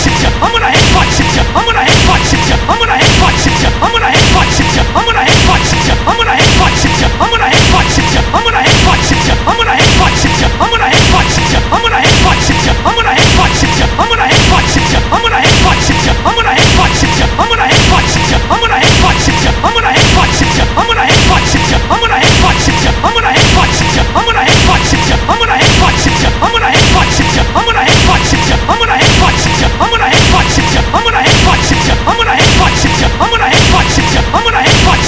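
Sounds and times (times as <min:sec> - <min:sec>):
cartoon music: 0:00.0 - 0:35.0.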